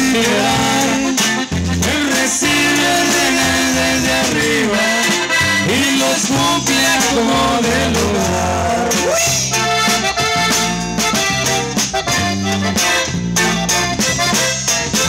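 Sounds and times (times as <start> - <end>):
bajo sexto: 0.0 - 15.0
button accordion melody: 0.0 - 15.0
drum kit: 0.0 - 15.0
electric bass: 0.0 - 15.0.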